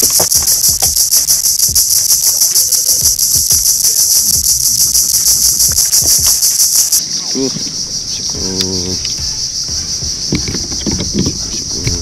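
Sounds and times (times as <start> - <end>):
insects buzzing shrilly: 0.0 - 12.0.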